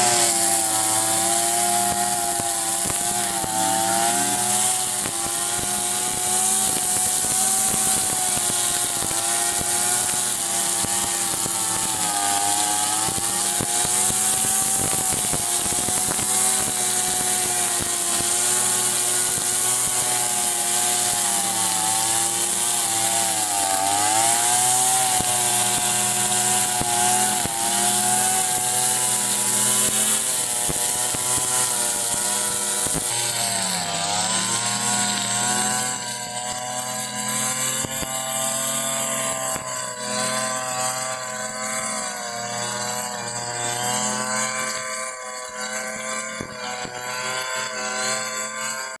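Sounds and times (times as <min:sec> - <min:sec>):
brush cutter engine running: 0:00.0 - 0:49.0.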